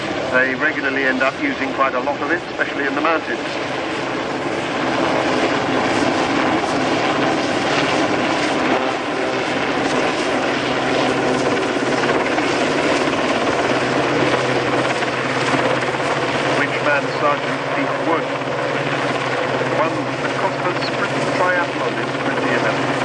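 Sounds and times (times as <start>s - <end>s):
helicopter rotors and engines: 0.0s - 23.0s.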